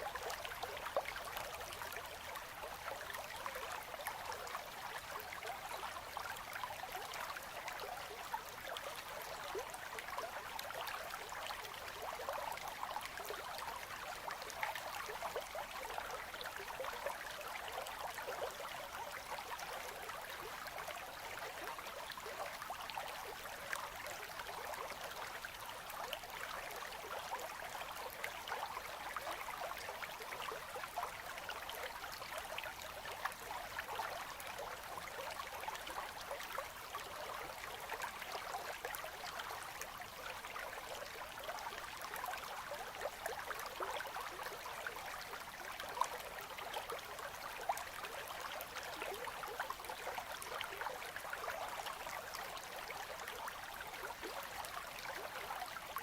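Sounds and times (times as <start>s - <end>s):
river babbling and gurgling: 0.0s - 56.0s.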